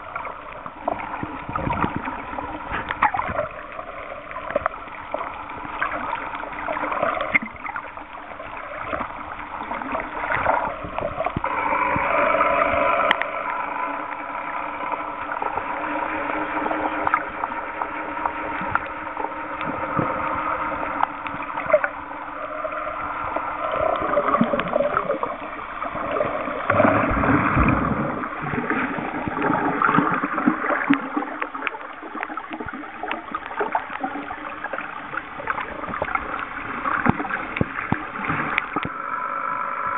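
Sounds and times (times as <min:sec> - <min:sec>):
faint steady hum: 0:00.0 - 0:39.9
water gurgling underwater: 0:00.0 - 0:39.9.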